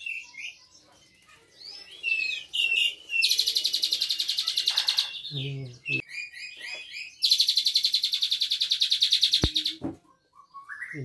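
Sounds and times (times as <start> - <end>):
starling singing: 0.0 - 11.0.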